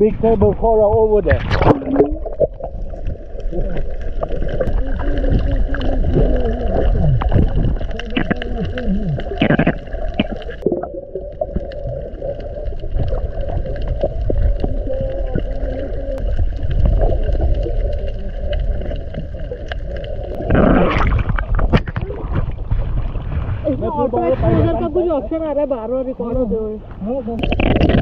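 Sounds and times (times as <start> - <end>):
underwater rumble and gurgling: 0.0 - 28.0
water splashing: 0.0 - 28.0
open-air sea noise: 1.2 - 28.0.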